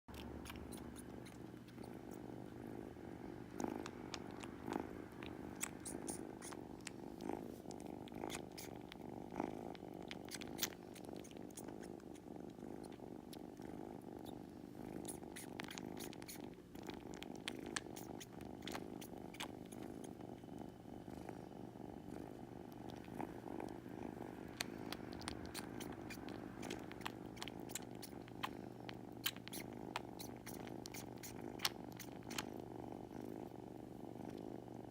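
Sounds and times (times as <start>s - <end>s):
kitten purring: 0.1s - 34.9s.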